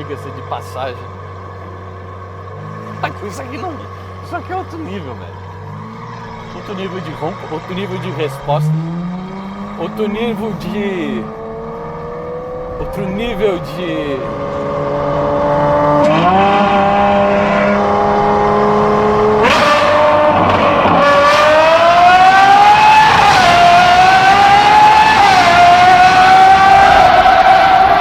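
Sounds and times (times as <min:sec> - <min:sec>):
sports car engine revving loud: 0:05.3 - 0:28.0.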